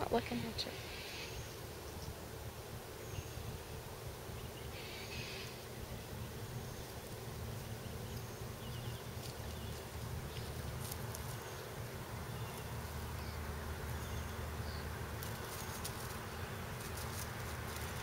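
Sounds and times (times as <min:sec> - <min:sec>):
insect buzzing: 0:00.5 - 0:18.0.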